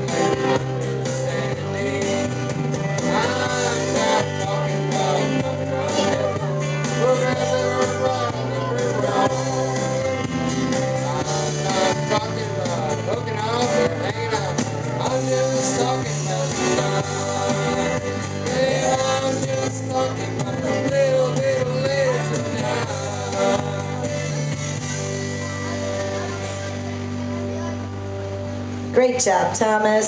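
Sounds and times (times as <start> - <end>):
man singing into a microphone: 0.0 - 25.1
recorded backing track: 0.0 - 30.0.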